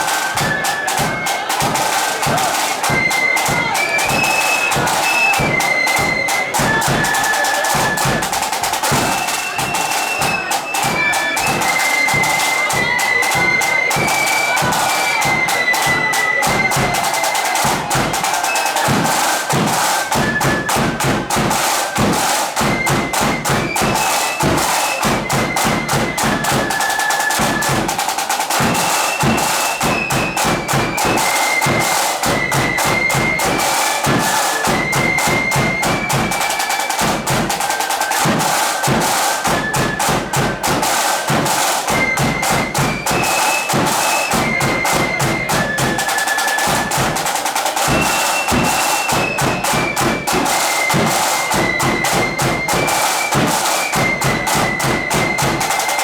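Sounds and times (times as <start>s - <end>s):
flute melody: 0.0s - 56.0s
snare drumming: 0.0s - 56.0s.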